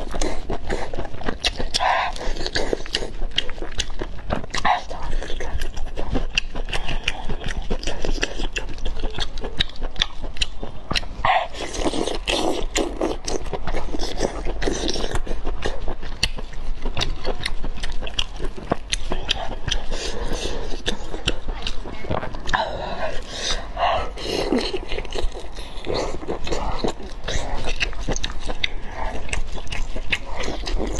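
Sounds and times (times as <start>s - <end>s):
person chewing and lip smacking: 0.0s - 30.9s.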